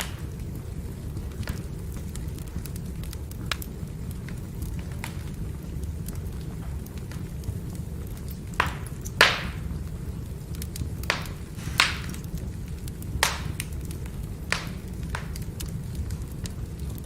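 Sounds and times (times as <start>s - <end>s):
firewood burning and popping: 0.0s - 17.0s.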